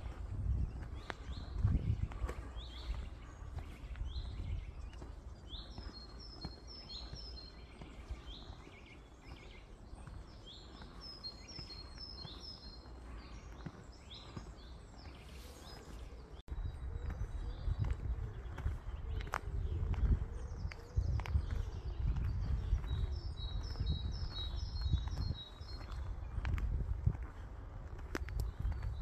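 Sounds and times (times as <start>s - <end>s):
songbirds singing: 0.0s - 29.0s.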